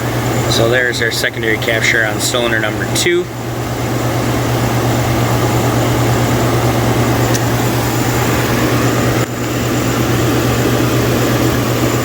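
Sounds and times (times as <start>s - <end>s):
misfiring engine idling: 0.0s - 12.0s.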